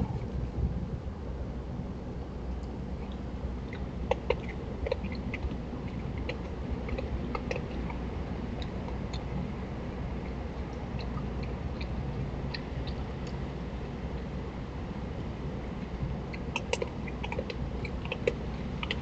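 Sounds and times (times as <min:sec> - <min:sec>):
low background rumble: 0:00.0 - 0:19.0
animal chewing food: 0:03.0 - 0:19.0.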